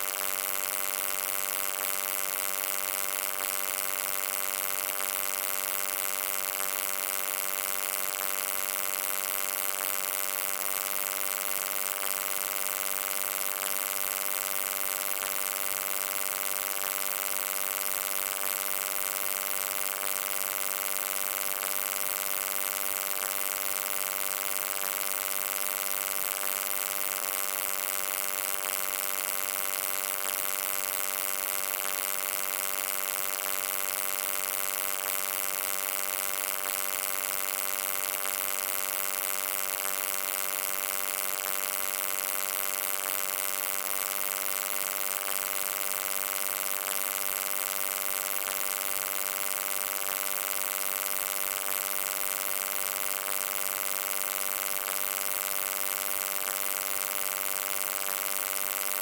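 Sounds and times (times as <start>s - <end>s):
electric hum and buzz: 0.0s - 59.0s.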